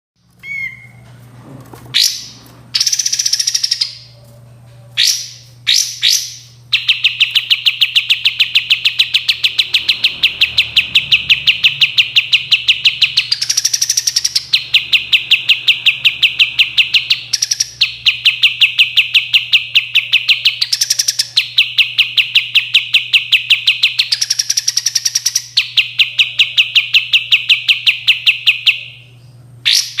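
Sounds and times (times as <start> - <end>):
bird whistling and trilling: 0.4 - 1.0, 2.0 - 4.2, 5.0 - 30.0.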